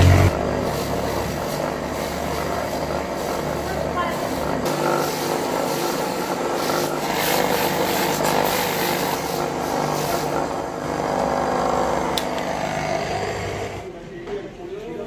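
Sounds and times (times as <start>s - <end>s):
buffing motor hum: 0.0s - 13.8s
rubber scraping on abrasive wheel: 0.0s - 13.8s.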